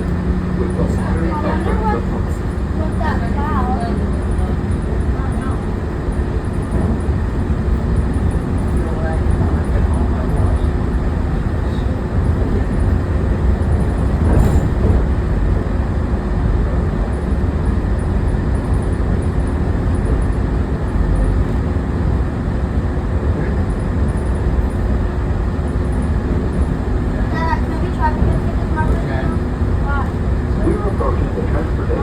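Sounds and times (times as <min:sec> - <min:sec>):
monorail rumbling: 0:00.0 - 0:32.0.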